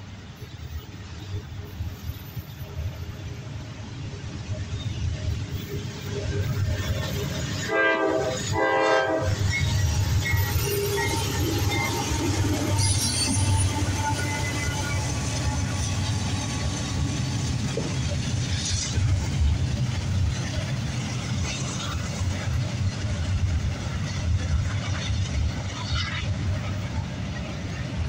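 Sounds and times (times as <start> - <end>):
diesel locomotive passing: 0.0 - 28.0
train wheels rumbling on rails: 0.0 - 28.0.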